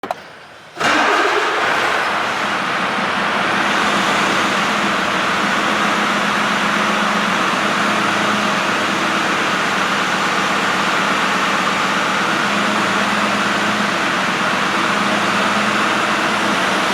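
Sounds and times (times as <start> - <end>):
diesel truck engine starting and idling: 0.0 - 16.9.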